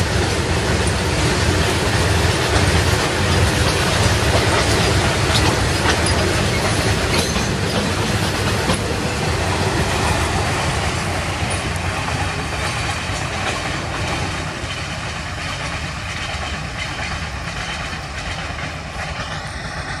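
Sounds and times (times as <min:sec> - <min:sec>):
freight train wheels clattering: 0:00.0 - 0:20.0.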